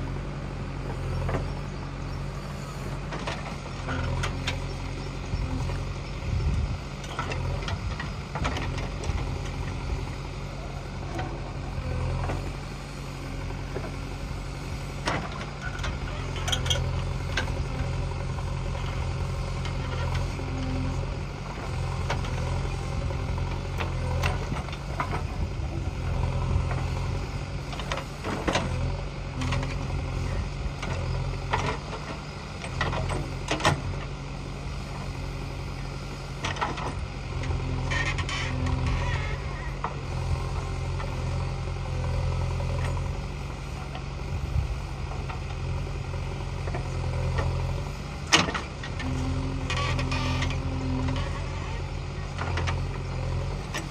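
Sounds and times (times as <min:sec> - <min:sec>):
diesel engine working under load: 0:00.0 - 0:53.9.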